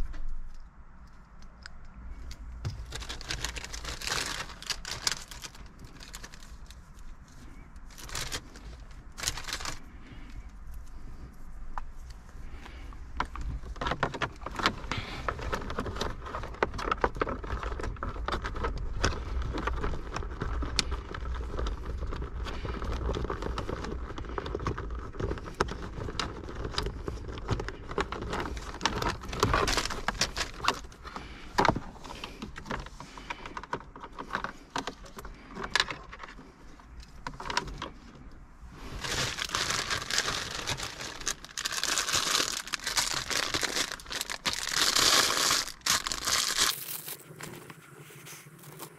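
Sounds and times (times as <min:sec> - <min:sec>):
wiring and connectors rattling: 0:00.0 - 0:48.9
plastic bag crinkling: 0:02.2 - 0:10.9, 0:12.4 - 0:48.9.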